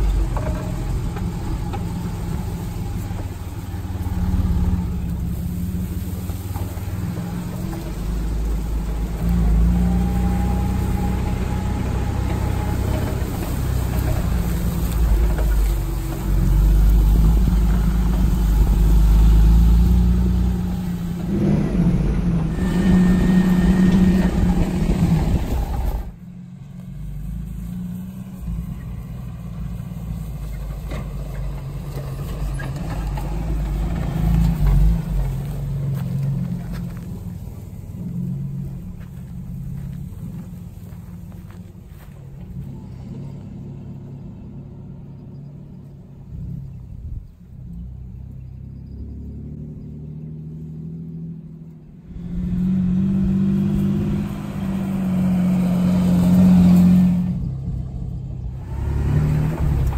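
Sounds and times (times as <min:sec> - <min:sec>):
vehicle engine low rumble: 0:00.0 - 0:59.9.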